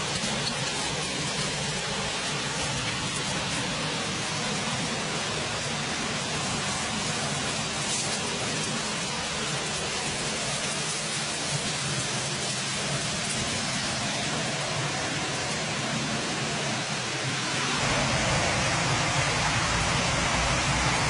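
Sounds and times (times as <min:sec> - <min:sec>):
fire crackling: 0:00.0 - 0:21.0
meat sizzling over campfire: 0:00.0 - 0:21.0.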